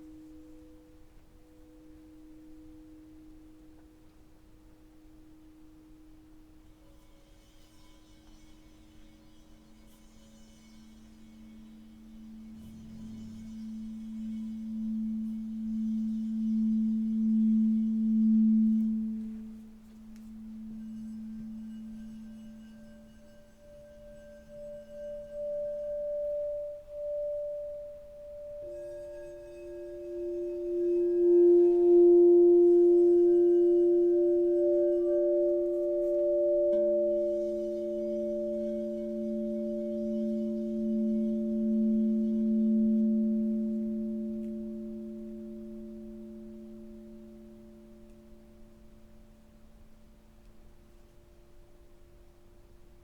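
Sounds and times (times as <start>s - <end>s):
high singing bowl tone: 0.0s - 53.0s
low singing bowl tone: 0.0s - 53.0s
middle singing bowl tone: 0.0s - 53.0s.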